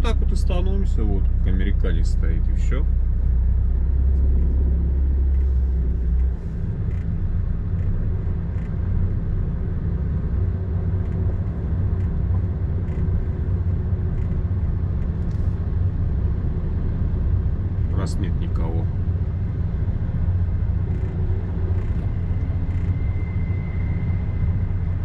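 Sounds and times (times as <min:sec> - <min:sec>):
diesel truck engine drone: 0:00.0 - 0:25.0.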